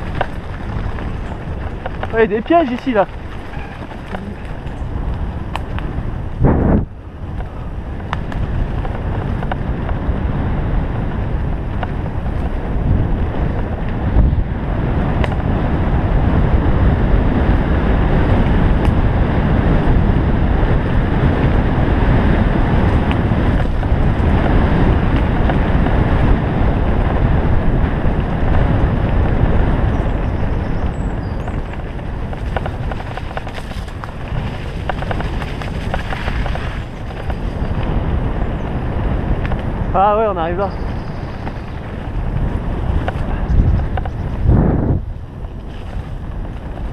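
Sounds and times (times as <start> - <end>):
bike tyres rumbling on dirt: 0.0 - 46.9
wind on camera microphone: 0.0 - 46.9.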